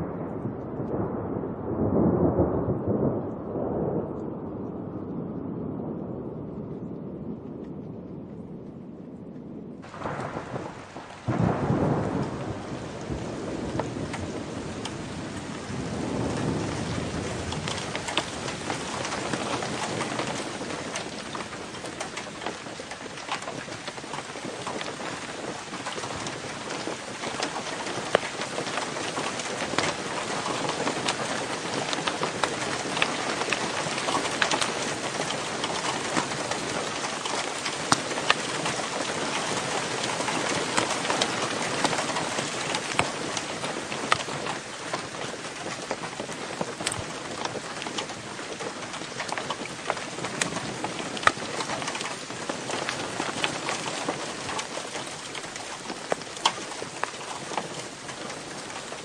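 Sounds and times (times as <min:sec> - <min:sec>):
heavy rain: 0:00.0 - 0:59.0
thunder rolling: 0:00.0 - 0:59.0.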